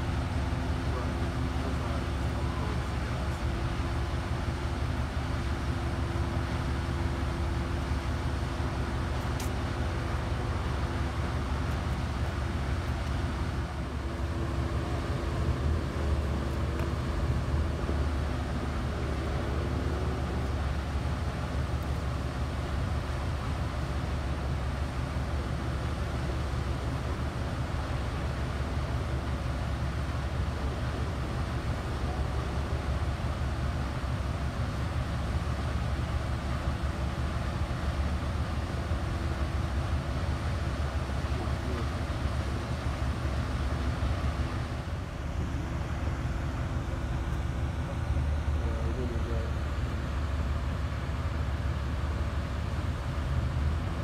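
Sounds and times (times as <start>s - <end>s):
low engine-like rumble: 0.0s - 54.0s.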